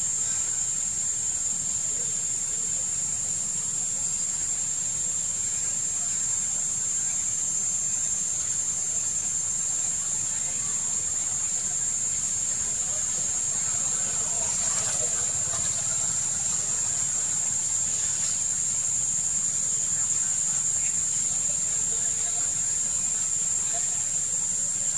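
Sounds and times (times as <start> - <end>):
insect chorus drone: 0.0 - 24.9.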